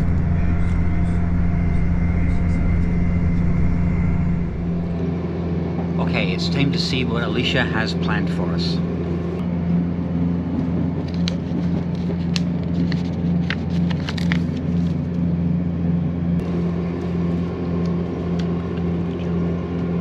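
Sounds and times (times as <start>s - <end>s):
train interior rumble and hum: 0.0s - 20.0s.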